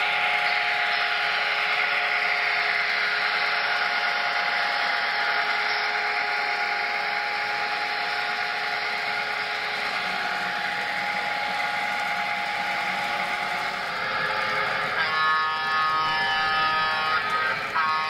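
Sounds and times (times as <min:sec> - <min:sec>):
locomotive motor hum: 0:00.0 - 0:18.0
model train wheels rolling on rails: 0:00.0 - 0:18.0.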